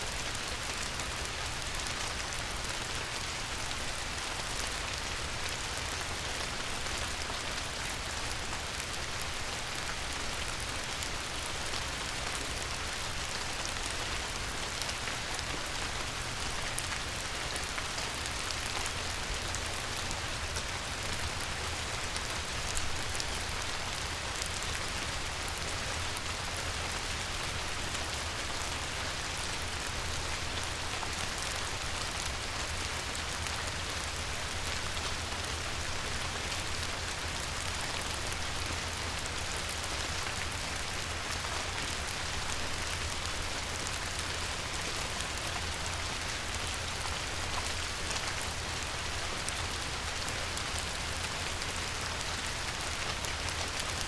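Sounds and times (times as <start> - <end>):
light rain on water: 0.0 - 54.0.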